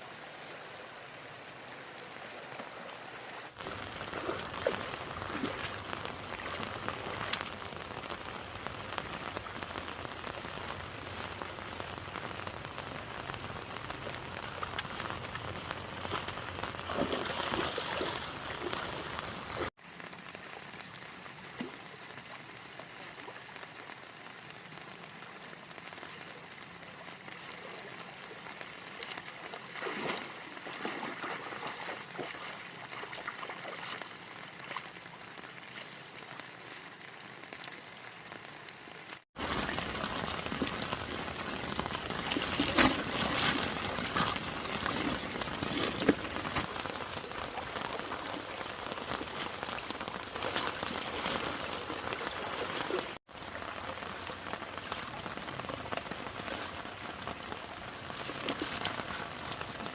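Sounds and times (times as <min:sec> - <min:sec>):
heavy rain falling: 0:03.5 - 0:33.2, 0:34.1 - 0:59.9.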